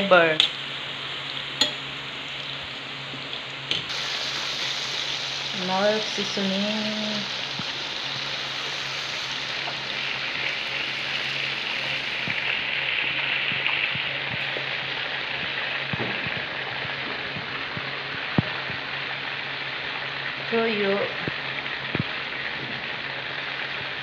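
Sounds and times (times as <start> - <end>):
chicken livers sizzling in a pan: 0.0 - 24.0.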